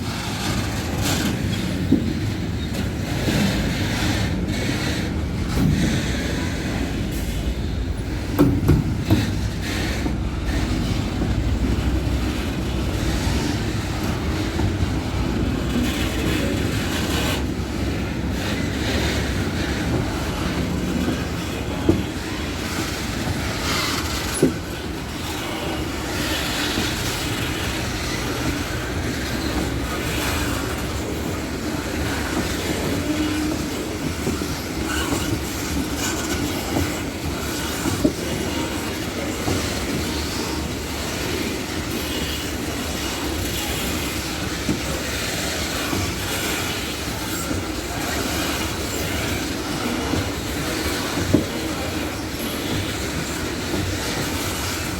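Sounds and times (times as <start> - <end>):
freight train rumbling: 0.0 - 54.9
wheels clattering over rail joints: 0.0 - 54.9.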